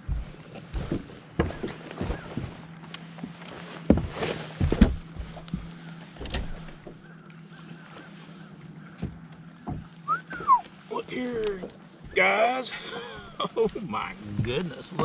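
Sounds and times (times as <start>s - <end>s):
boots thumping on boat deck: 0.0s - 7.2s, 7.9s - 13.6s.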